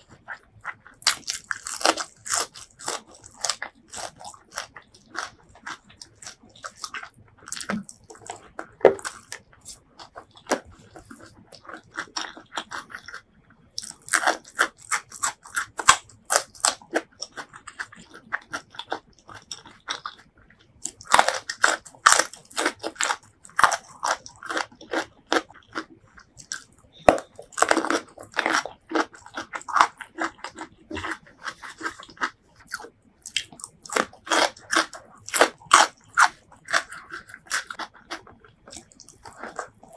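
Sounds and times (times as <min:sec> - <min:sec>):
crunchy chewing of raw vegetables: 0:00.0 - 0:39.9.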